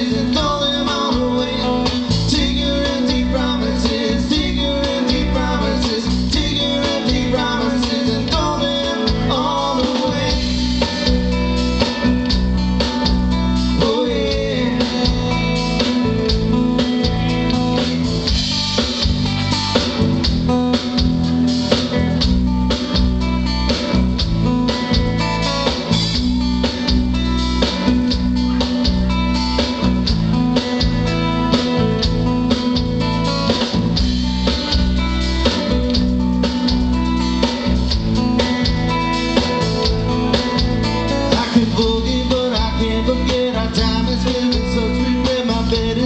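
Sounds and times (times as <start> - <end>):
bass guitar: 0.0 - 46.0
drum kit beat: 0.0 - 46.0
electric guitar: 0.0 - 46.0.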